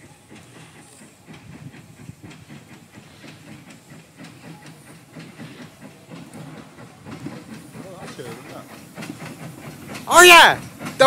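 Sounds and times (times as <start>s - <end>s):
steam hissing: 0.0s - 11.0s
steam locomotive exhaust beats: 0.0s - 11.0s.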